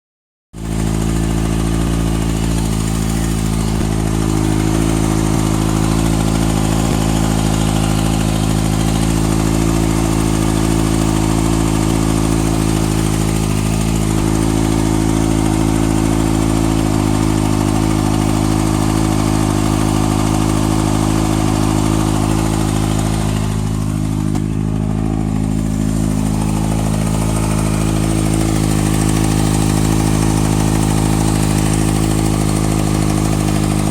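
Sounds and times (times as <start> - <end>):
engine ticking: 0.6 - 33.9
motorcycle engine idling: 0.6 - 33.9.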